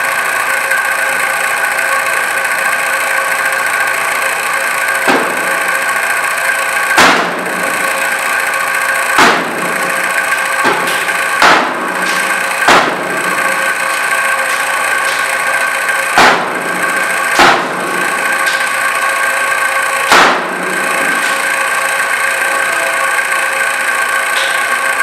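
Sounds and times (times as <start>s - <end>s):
machine-like hum: 0.0s - 25.0s.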